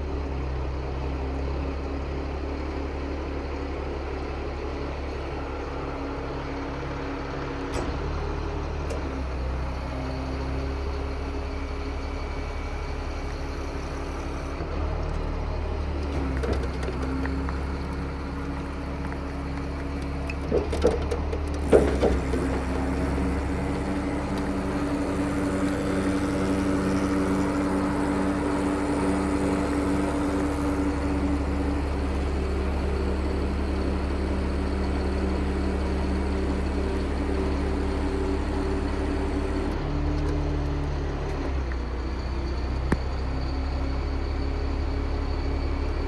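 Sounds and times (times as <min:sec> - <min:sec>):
truck diesel engine running: 0:00.0 - 0:46.0
crane hydraulics working: 0:04.8 - 0:46.0.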